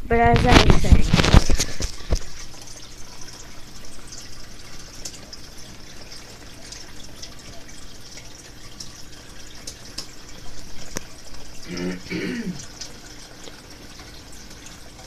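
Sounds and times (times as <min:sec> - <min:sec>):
water drips and splashes: 0:00.4 - 0:15.0.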